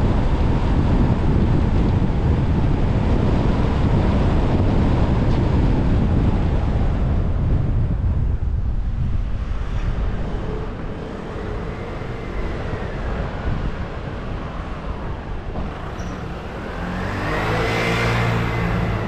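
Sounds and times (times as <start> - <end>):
car tyre and engine noise: 0.0 - 19.0.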